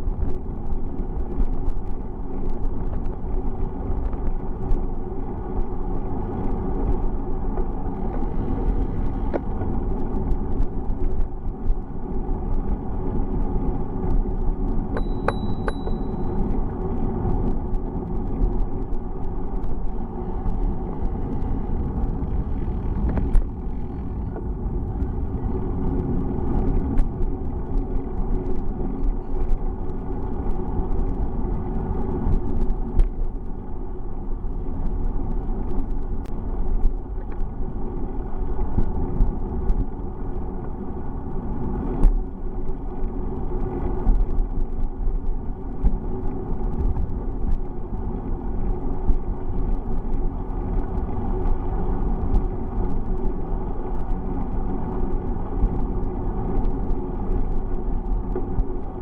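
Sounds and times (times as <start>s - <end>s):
wind and road noise from bicycle: 0.0s - 59.0s.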